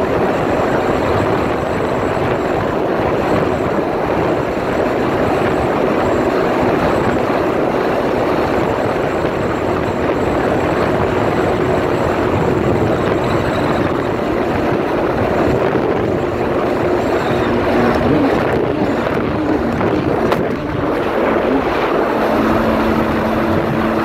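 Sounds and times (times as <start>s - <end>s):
rushing water: 0.0s - 24.0s
watercraft engine drone: 0.0s - 24.0s
wind buffeting microphone: 0.0s - 24.0s.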